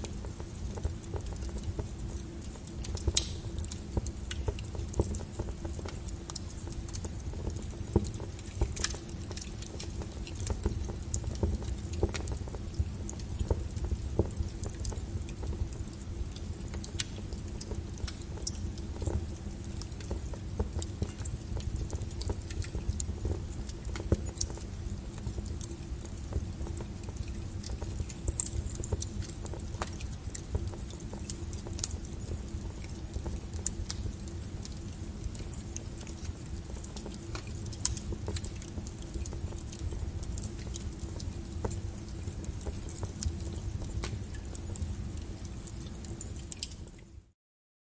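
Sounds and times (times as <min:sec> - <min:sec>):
wood fire crackling and popping: 0:00.0 - 0:47.3.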